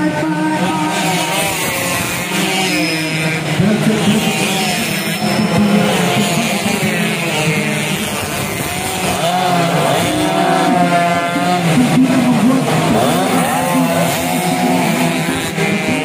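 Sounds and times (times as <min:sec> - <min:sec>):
moped engines revving: 0:00.0 - 0:16.0.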